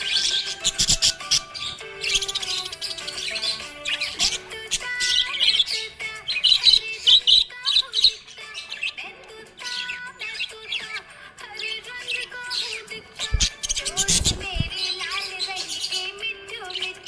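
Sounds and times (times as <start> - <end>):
background music with held tones: 0.0 - 17.0
budgie chirping and warbling: 0.0 - 17.0.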